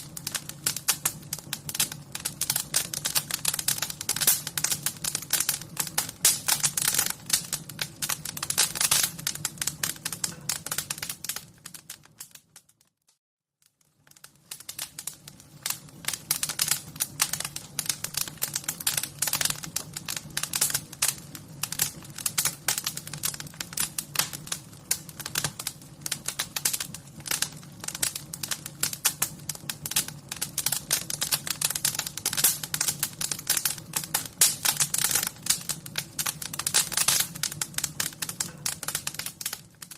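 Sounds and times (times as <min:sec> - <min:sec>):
fire crackling: 0:00.0 - 0:12.8, 0:13.6 - 0:39.9.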